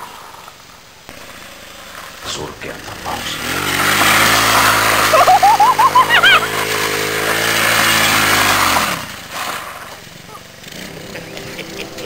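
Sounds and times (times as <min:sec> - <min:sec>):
mini bike engine running: 0:01.1 - 0:12.0.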